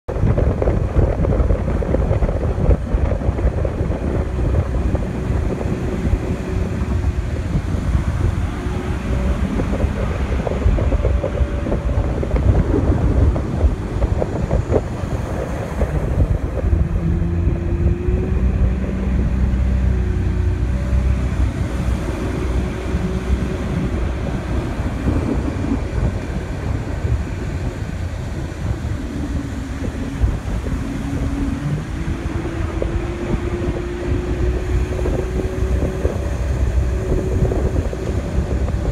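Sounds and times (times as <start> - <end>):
wind rumbling on microphone: 0.0 - 38.9
outboard motor running: 0.1 - 38.9.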